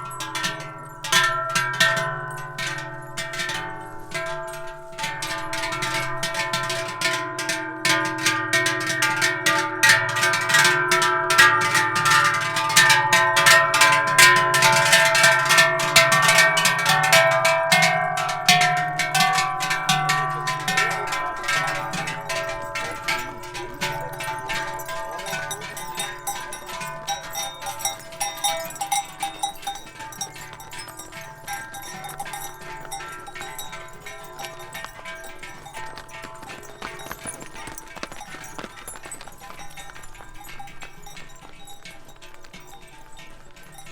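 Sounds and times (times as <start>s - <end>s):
cowbells clanging: 0.0s - 43.9s.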